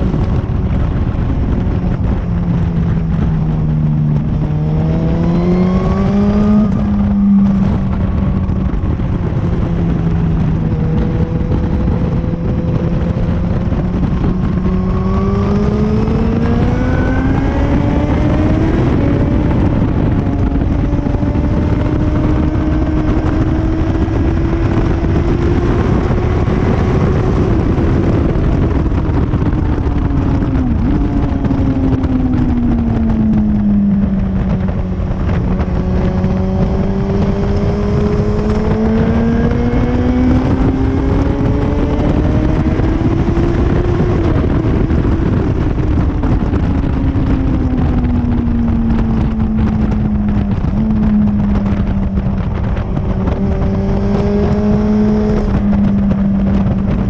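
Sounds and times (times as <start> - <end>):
motorcycle engine accelerating: 0.0 - 57.0
wind rush: 0.0 - 57.0.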